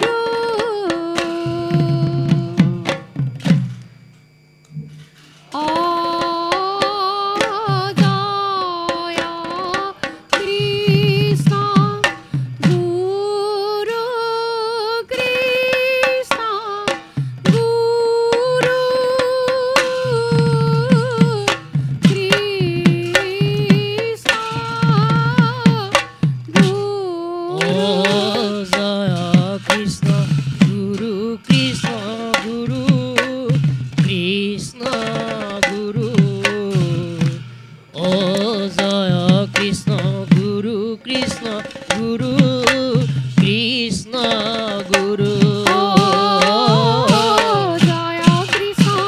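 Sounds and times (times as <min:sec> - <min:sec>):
person singing long held notes: 0:00.0 - 0:03.1, 0:05.5 - 0:49.0
hand drums: 0:00.0 - 0:49.0.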